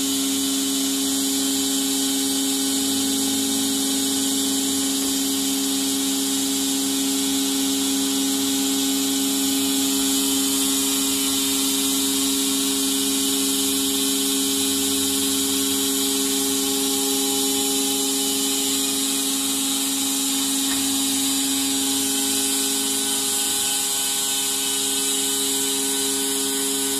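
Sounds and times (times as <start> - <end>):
electric pump humming: 0.0 - 26.9.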